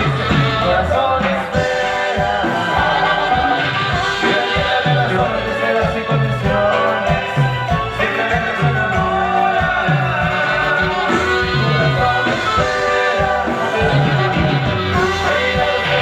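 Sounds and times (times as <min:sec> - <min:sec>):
live band playing: 0:00.0 - 0:16.0
person singing: 0:00.0 - 0:16.0
repeating bass line: 0:00.0 - 0:16.0.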